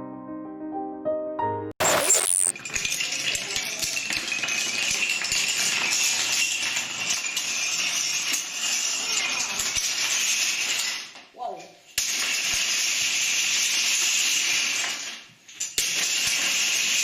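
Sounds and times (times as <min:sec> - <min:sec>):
dominoes clattering: 0:02.0 - 0:11.2, 0:12.0 - 0:17.0.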